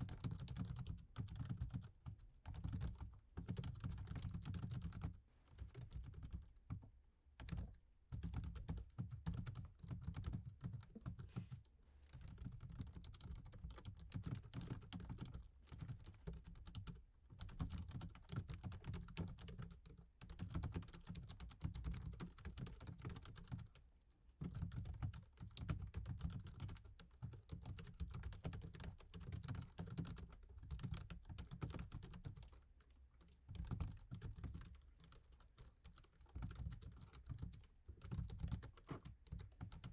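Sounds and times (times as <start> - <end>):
typing on laptop keyboard: 0.0 - 39.9.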